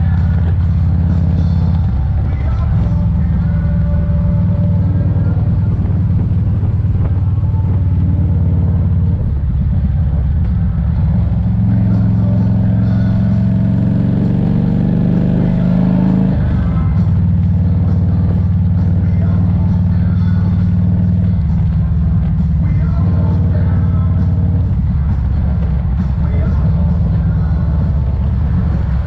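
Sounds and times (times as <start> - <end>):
motorcycle engine droning: 0.0 - 29.0.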